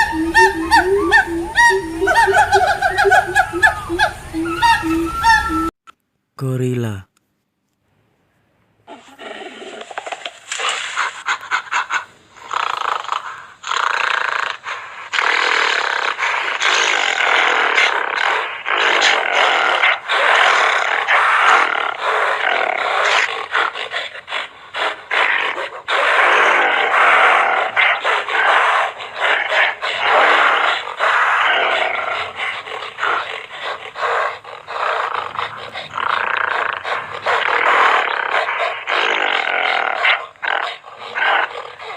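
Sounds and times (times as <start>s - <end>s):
gorilla rough calls: 0.0s - 5.7s, 8.9s - 41.9s.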